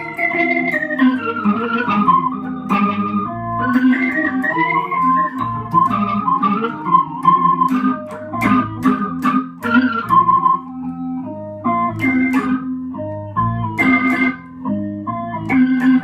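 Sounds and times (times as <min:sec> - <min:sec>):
electric guitar with organ tone: 0:00.0 - 0:16.0.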